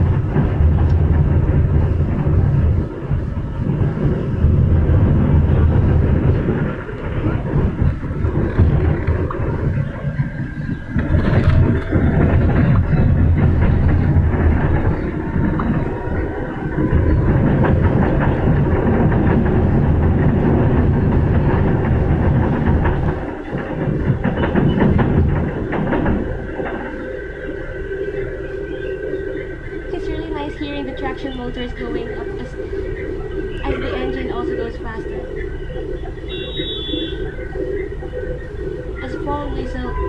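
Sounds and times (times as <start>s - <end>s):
train low rumble: 0.0s - 40.0s
wheels clacking over rail joints: 0.0s - 40.0s
traction motor whine: 4.4s - 40.0s.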